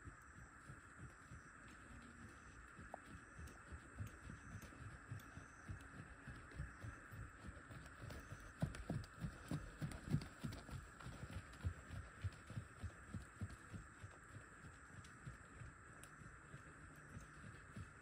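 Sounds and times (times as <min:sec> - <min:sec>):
faint steady hum: 0:00.0 - 0:18.0
hooves trotting on dirt: 0:00.0 - 0:18.0.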